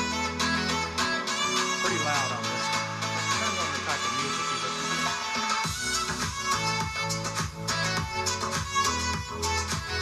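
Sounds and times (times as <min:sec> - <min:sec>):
song with beat and strings on speaker: 0:00.0 - 0:10.0.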